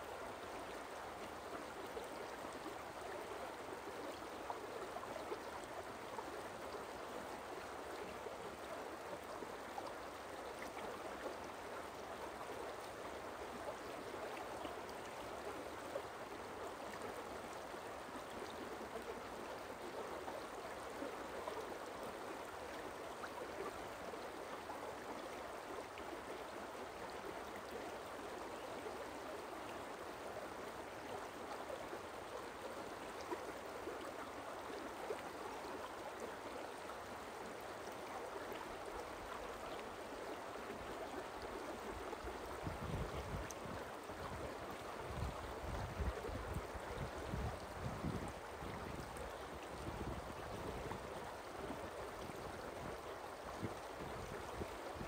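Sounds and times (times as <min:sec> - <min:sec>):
stream water babbling: 0:00.0 - 0:55.0.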